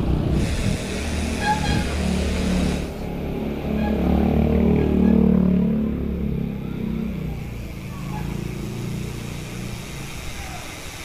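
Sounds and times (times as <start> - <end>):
motorcycle engine passing: 0.0 - 9.7.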